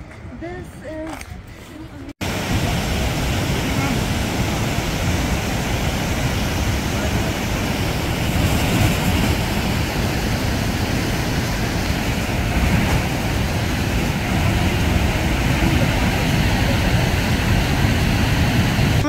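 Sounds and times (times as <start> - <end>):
wind rumbling on microphone: 1.2 - 19.0
waterfall rushing: 2.2 - 19.0.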